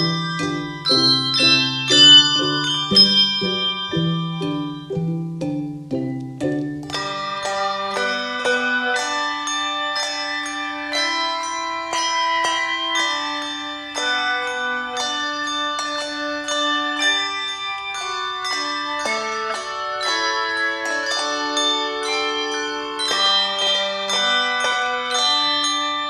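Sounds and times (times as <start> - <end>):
handbells ringing chords: 0.0 - 26.0.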